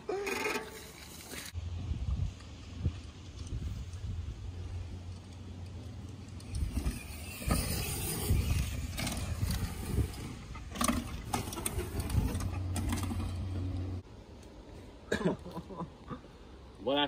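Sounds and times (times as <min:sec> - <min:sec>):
mountain bikes rattling: 0:00.0 - 0:14.0.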